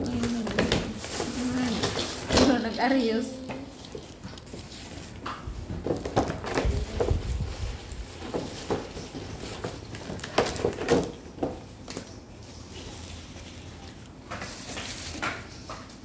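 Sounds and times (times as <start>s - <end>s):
rustling: 0.0s - 15.9s.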